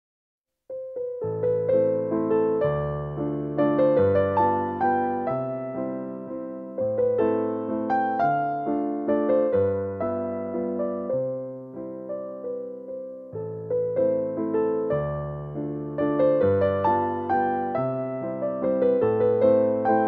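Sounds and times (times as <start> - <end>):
gentle electric piano music: 0.7 - 20.0.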